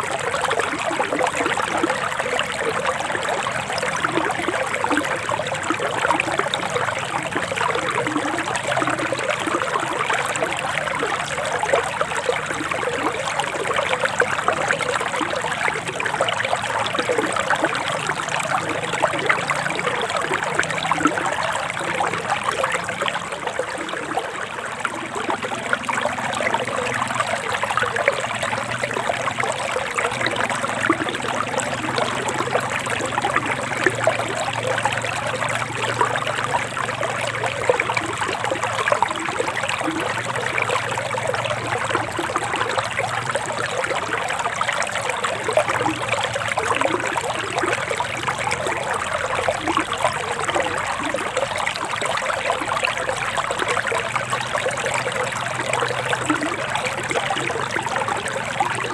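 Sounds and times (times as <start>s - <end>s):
stream trickling over rocks: 0.0s - 58.9s.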